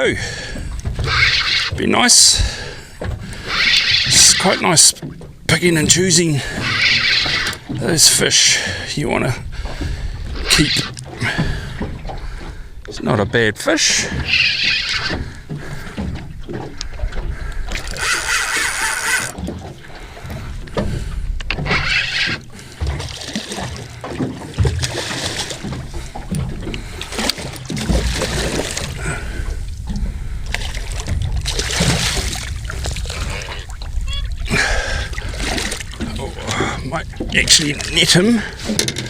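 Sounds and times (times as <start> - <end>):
water around boat: 0.0 - 39.0
wind rumbling on microphone: 0.1 - 13.1, 14.0 - 39.0.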